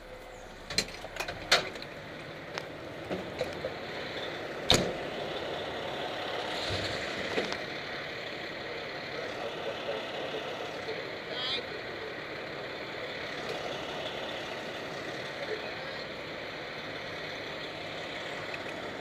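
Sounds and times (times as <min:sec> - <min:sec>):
fire engine running: 0:00.0 - 0:19.0.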